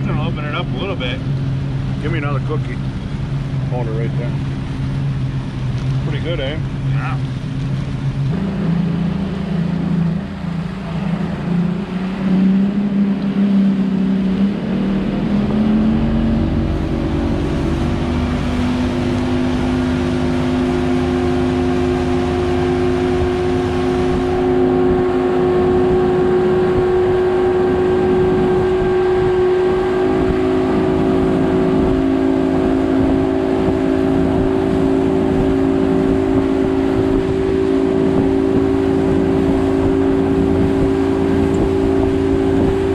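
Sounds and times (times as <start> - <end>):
boat engine revving: 0.0 - 42.9
water rushing: 0.0 - 42.9.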